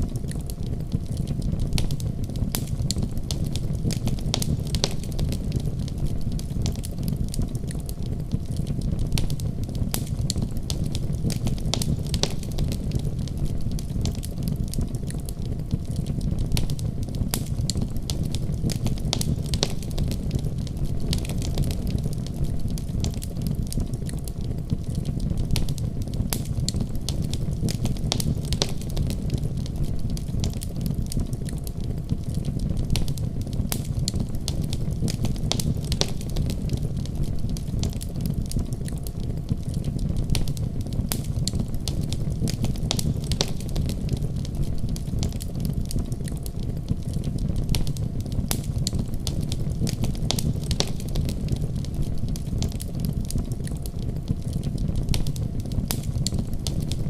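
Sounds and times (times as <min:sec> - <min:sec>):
fire popping and crackling: 0:00.0 - 0:57.0
low roar of flames: 0:00.0 - 0:57.0.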